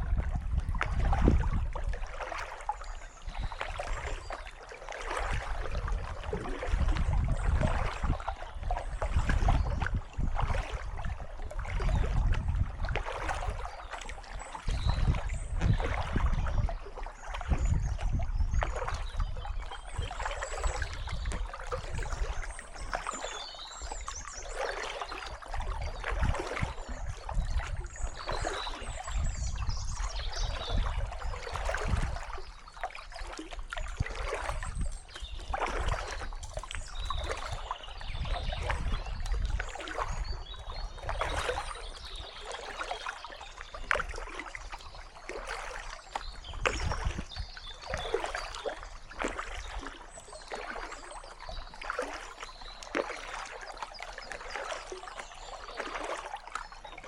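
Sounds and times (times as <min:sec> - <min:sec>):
kayak paddle splashing: 0:00.0 - 0:57.0
water trickling off paddle: 0:00.0 - 0:57.0.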